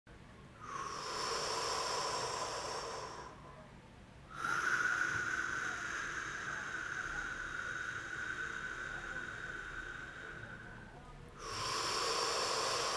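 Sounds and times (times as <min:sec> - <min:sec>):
person breathing deeply: 0:00.6 - 0:03.6, 0:04.3 - 0:12.9.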